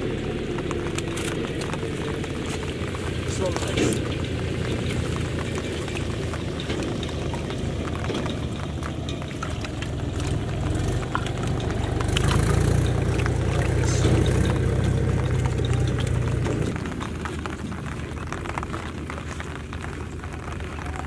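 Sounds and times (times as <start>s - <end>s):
steady low motor hum: 0.0s - 21.0s.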